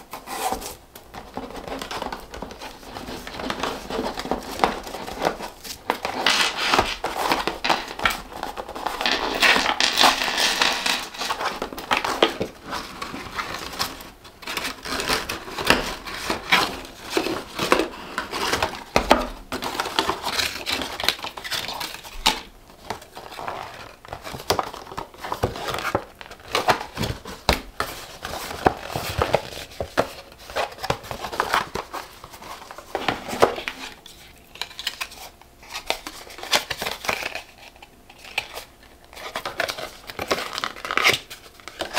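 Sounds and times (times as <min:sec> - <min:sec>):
paper and card packaging rustling: 0:00.0 - 0:41.9.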